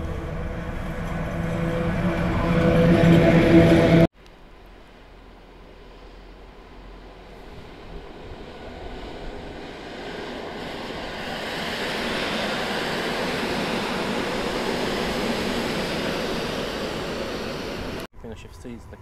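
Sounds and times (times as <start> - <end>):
train wheels rushing past: 0.0 - 4.1, 4.8 - 18.1.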